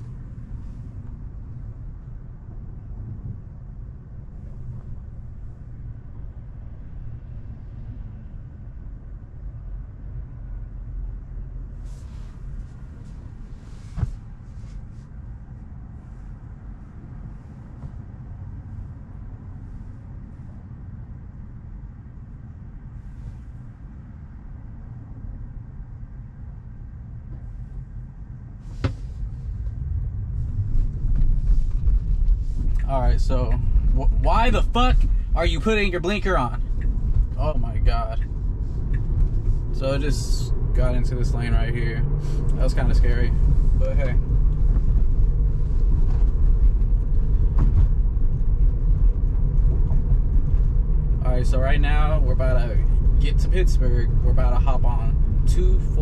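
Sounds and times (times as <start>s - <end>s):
road and tyre rumble in car cabin: 0.0s - 56.0s.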